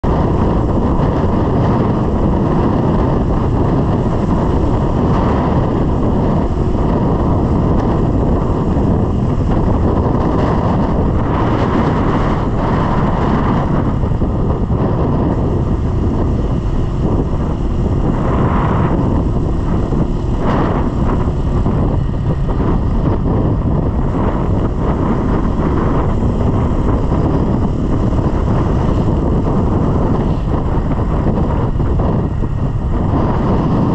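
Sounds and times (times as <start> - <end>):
motorcycle engine running: 0.0 - 33.9
wind on microphone: 0.0 - 33.9.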